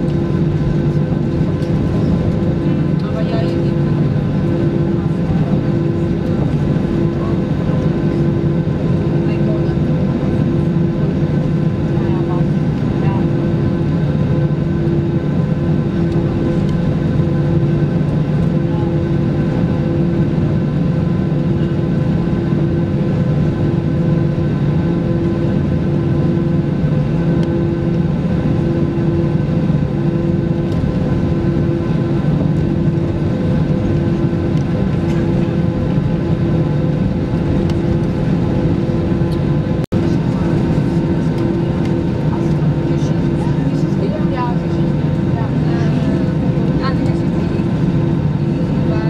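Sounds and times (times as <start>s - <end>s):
aircraft engines idling drone: 0.0s - 49.0s.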